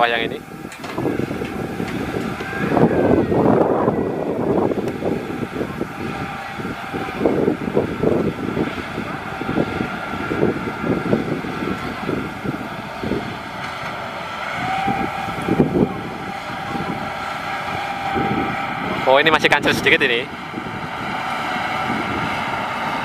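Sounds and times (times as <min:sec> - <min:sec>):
combine harvester running: 0:00.0 - 0:23.0
machine whine: 0:00.0 - 0:23.0.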